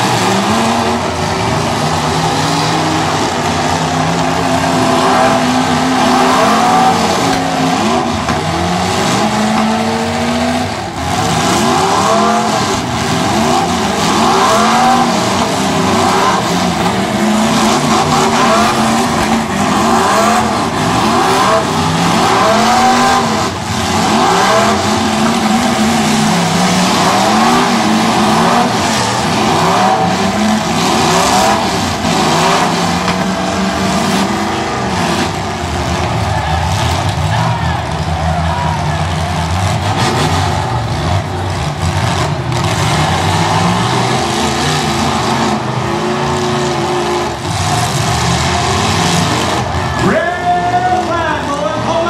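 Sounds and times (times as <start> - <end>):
car engines revving: 0.0 - 52.0
cars ramming each other: 0.0 - 52.0.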